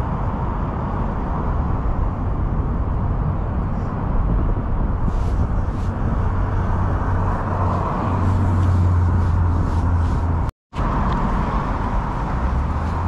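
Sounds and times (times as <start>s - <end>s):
road traffic rumble: 0.0s - 13.0s
wind noise: 0.0s - 13.0s.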